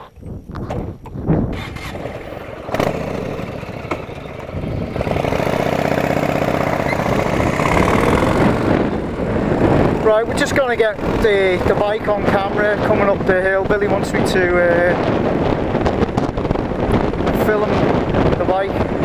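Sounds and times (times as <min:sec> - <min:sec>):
motorcycle engine running: 0:01.4 - 0:19.0.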